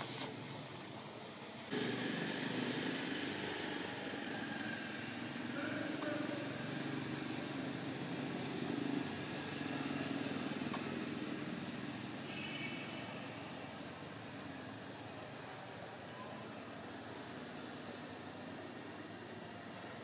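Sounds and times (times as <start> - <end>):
motor vehicle engine humming: 0.0 - 20.0.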